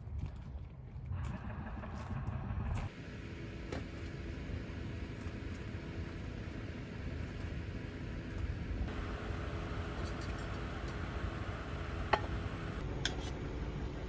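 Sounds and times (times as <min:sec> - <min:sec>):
vehicle engine rumbling: 0:00.0 - 0:14.0
faint hum: 0:00.3 - 0:14.0.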